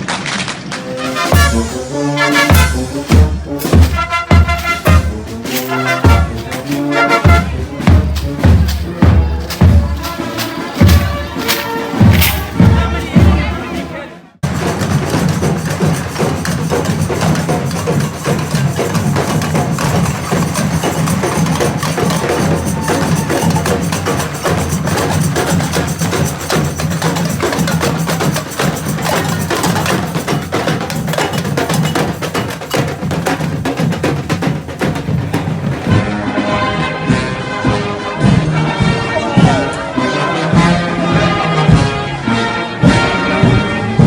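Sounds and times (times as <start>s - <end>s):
drums and percussion beat: 0.7s - 36.2s.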